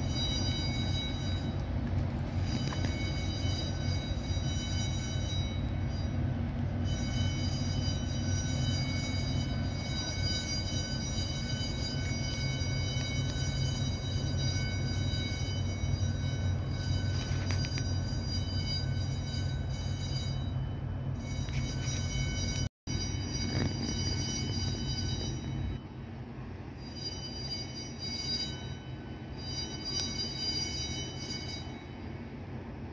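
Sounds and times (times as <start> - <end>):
low mechanical rumble: 0.0 - 32.9
thin high whine: 0.0 - 32.9.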